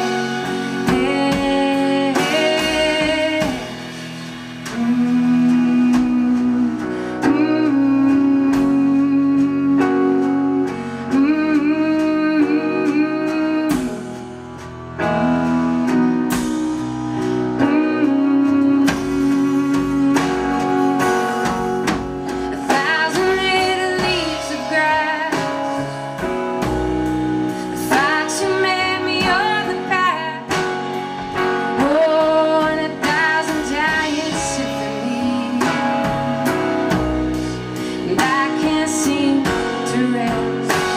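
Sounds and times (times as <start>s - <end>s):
bass line: 0.0s - 40.9s.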